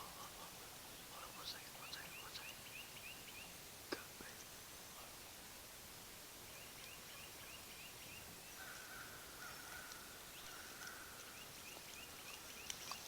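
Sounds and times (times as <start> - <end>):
faint bird chirping: 0.0 - 5.3, 6.4 - 13.0.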